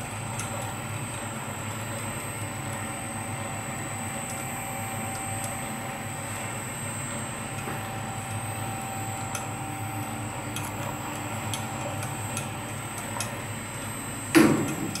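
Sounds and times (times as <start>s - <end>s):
rolling mill motor hum: 0.0s - 15.0s.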